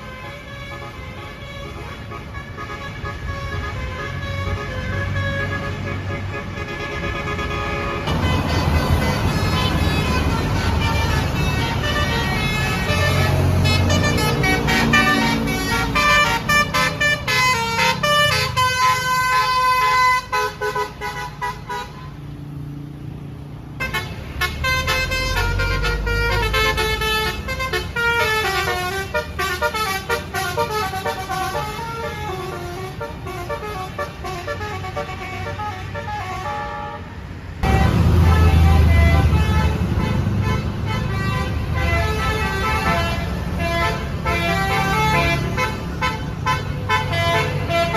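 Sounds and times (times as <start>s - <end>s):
multi-tone air horn tune: 0.0s - 22.1s, 23.8s - 47.9s.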